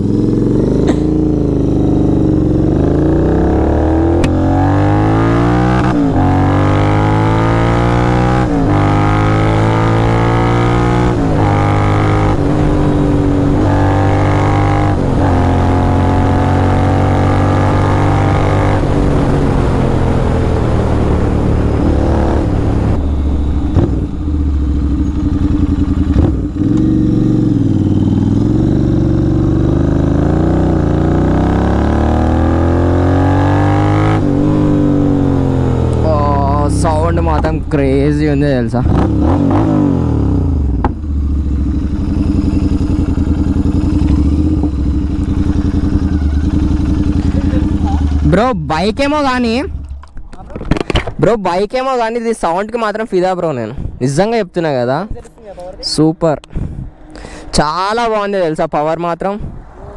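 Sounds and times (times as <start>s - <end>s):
motorcycle accelerating through gears: 0.0s - 51.1s.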